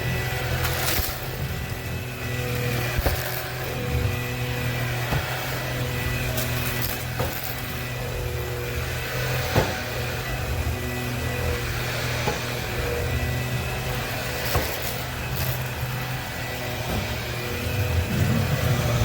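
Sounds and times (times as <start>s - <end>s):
stick vacuum motor hum: 0.0s - 19.0s.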